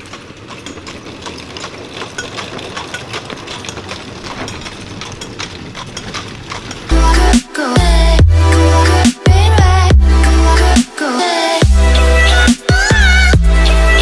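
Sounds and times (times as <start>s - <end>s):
engine idling with ticking: 0.0s - 10.9s, 11.6s - 14.0s.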